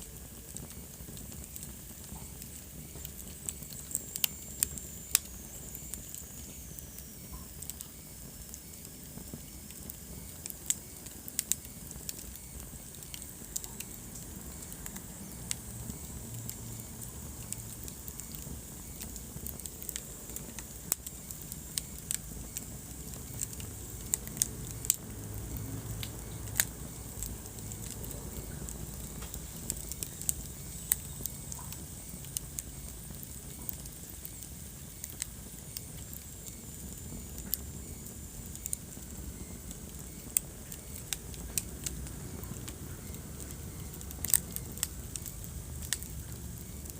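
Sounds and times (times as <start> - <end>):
faint high hiss: 0.0 - 46.9
fire crackling and popping: 0.0 - 46.9
low rumble of flames: 0.0 - 46.9.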